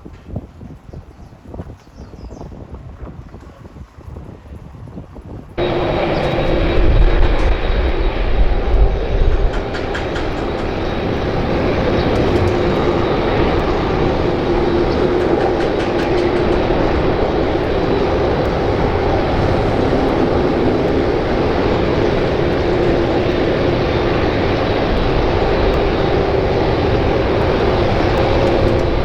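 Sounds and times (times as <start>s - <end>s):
wind on microphone: 0.0s - 29.0s
jet engines whining: 5.6s - 29.0s.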